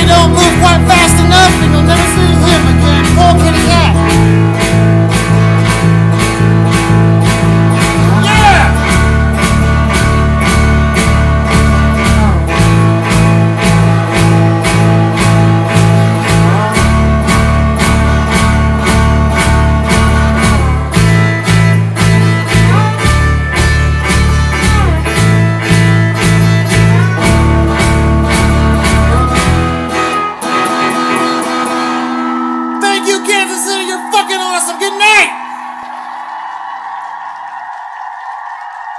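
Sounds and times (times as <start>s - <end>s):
drums beating: 0.0s - 32.2s
bass line: 0.0s - 35.9s
electric guitars: 0.0s - 36.7s.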